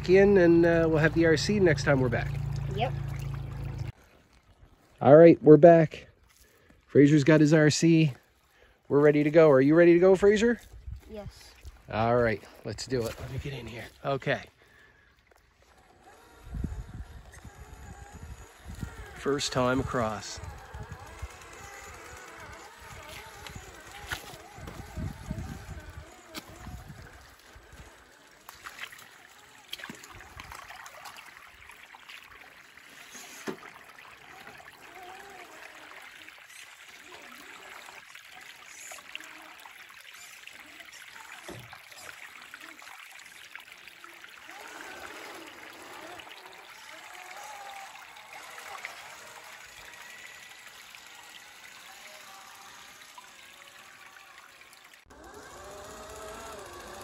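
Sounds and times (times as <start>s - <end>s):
small stream trickling: 0.0s - 57.0s.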